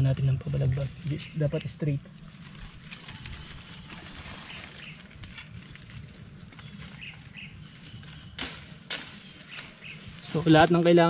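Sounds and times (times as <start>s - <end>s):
leaves and brush rustling: 0.0s - 11.0s.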